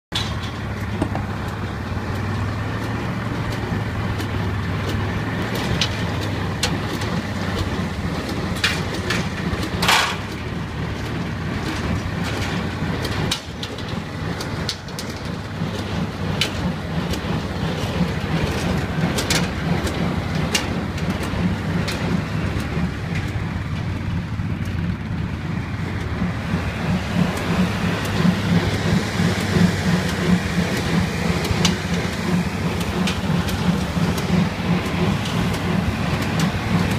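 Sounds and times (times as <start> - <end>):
machinery clicks and knocks: 0.1 - 36.9
tractor engine drone: 0.1 - 36.9.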